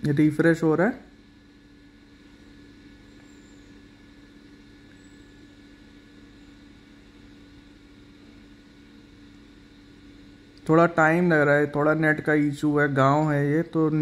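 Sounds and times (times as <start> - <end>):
faint low hum with hiss: 0.0 - 14.0.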